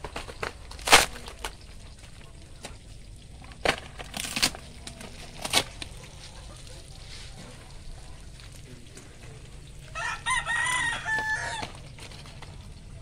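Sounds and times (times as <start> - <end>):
wooden boards cracking: 0.0 - 6.4, 8.2 - 13.0.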